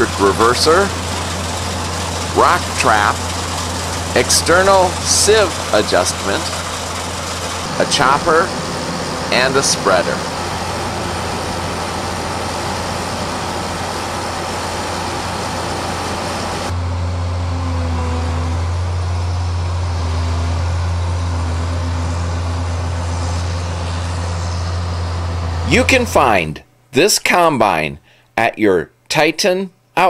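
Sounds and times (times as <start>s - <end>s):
diesel engine humming: 0.0s - 26.6s.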